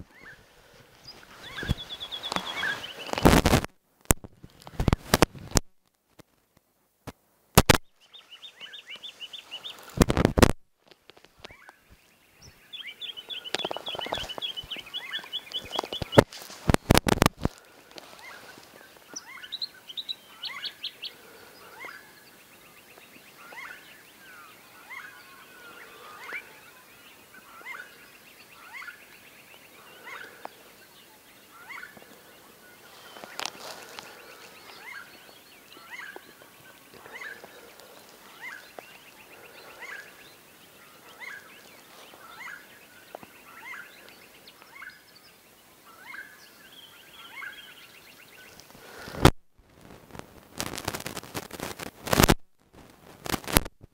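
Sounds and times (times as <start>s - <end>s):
birds trilling: 0.0s - 3.5s, 8.0s - 10.4s, 11.1s - 49.2s.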